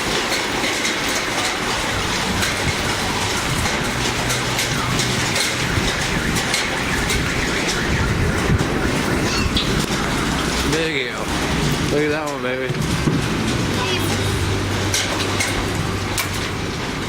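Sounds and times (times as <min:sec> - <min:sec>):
continuous hiss: 0:00.0 - 0:17.0
hailstones clattering: 0:00.0 - 0:17.0.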